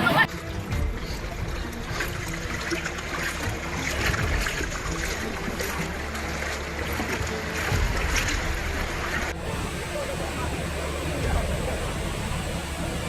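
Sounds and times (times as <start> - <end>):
floodwater splashing: 0.0 - 13.0
low rumble: 0.0 - 13.0.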